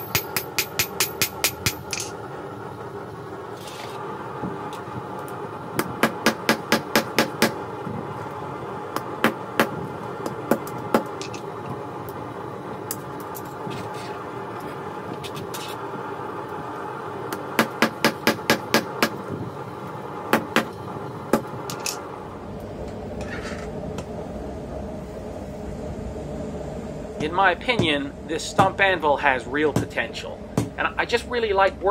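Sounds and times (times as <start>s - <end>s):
steady hum: 0.0s - 31.9s.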